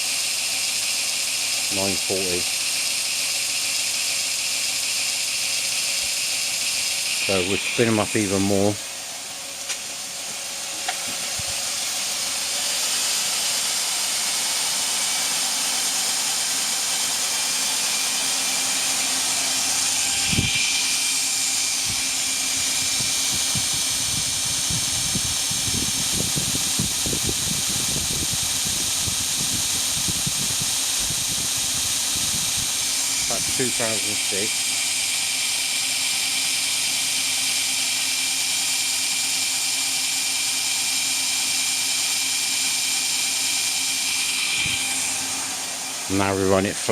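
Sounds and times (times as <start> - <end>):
belt grinder whining: 0.0 - 46.9.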